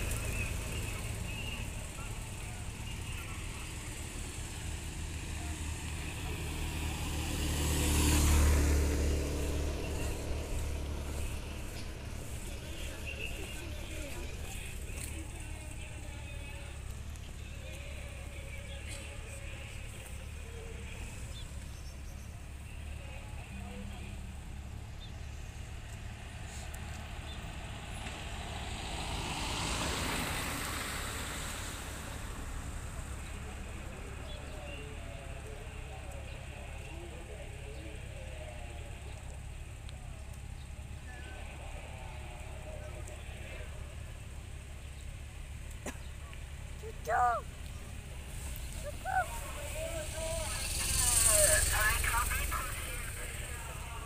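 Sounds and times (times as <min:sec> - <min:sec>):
motorcycles riding past: 0:00.0 - 0:54.0.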